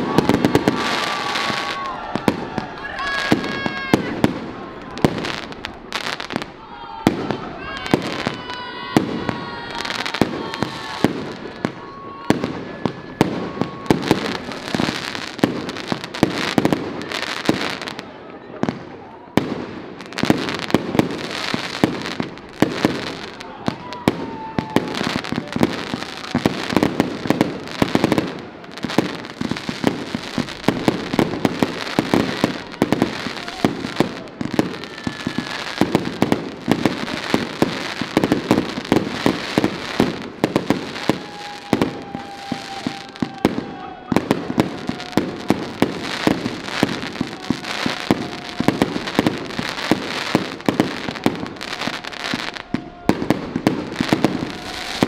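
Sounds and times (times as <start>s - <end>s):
fireworks aerial bursts: 0.0s - 55.0s.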